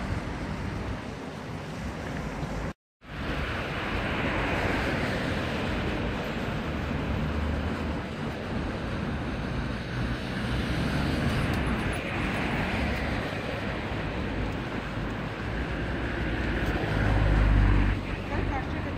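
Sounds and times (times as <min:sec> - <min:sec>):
city road traffic: 0:00.0 - 0:18.9.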